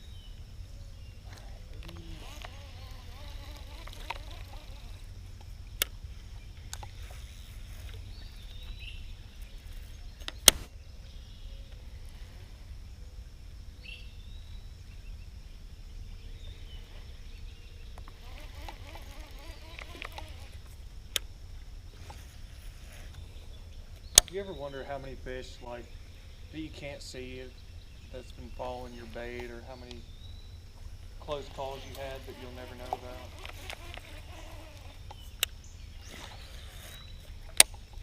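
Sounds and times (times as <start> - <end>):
faint bird or insect chirps: 0.0 - 38.0.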